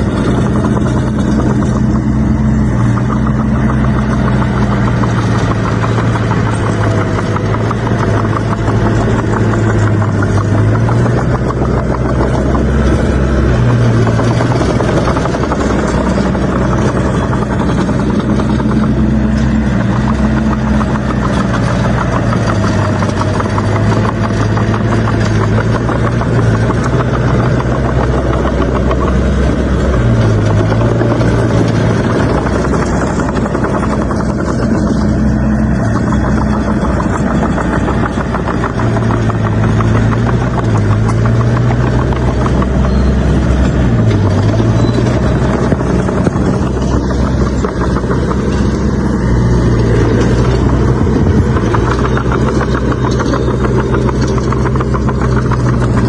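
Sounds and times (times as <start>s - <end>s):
bulldozer diesel engine running: 0.0s - 56.0s
metallic clatter: 0.0s - 56.0s.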